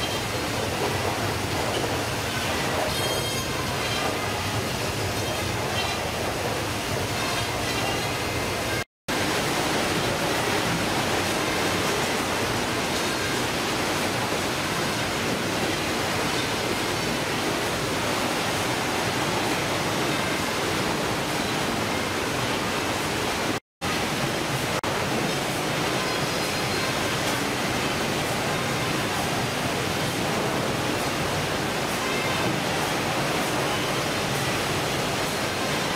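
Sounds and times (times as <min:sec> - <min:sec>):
processing machinery hissing din: 0:00.0 - 0:35.9.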